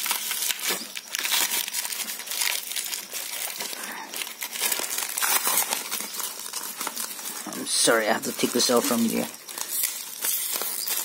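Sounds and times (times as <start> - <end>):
cardboard crackling and crinkling: 0.0 - 11.0.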